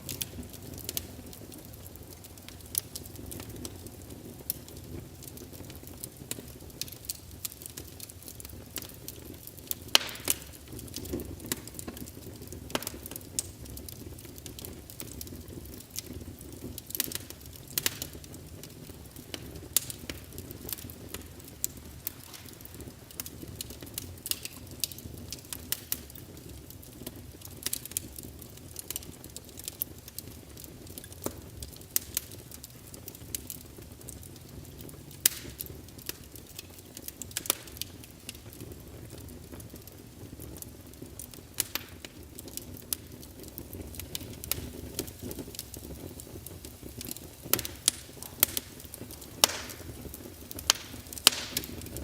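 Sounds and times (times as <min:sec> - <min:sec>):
burning logs popping: 0:00.0 - 0:52.0
wood fire crackling: 0:00.0 - 0:52.0.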